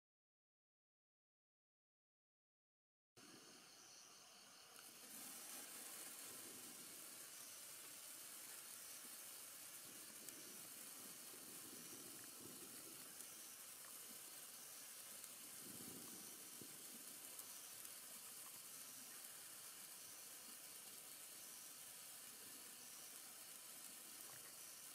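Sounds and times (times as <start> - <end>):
sparkler hissing: 3.2 - 24.9
sparks crackling: 4.7 - 24.9.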